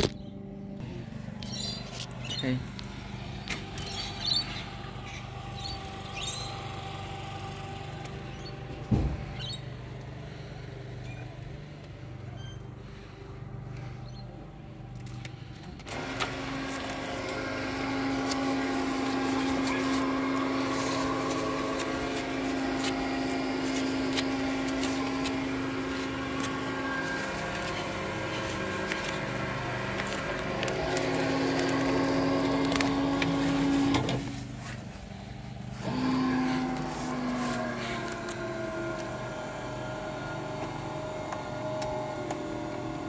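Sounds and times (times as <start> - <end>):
roller shutter motor humming: 0.0 - 43.0.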